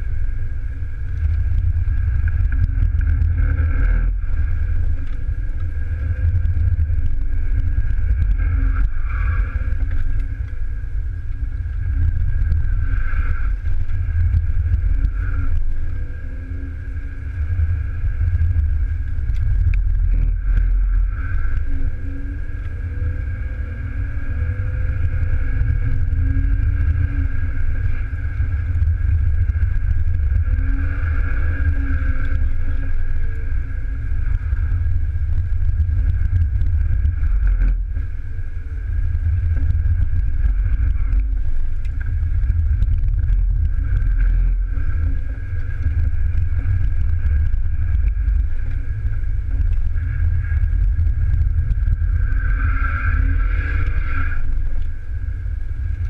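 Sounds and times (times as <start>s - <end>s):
road and tyre noise: 0.0s - 56.0s.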